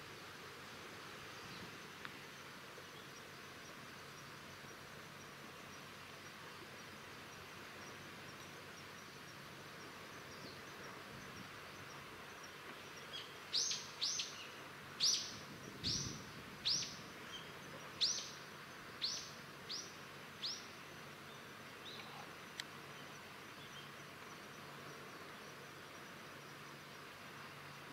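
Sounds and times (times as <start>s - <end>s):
faint background hiss: 0.0s - 27.9s.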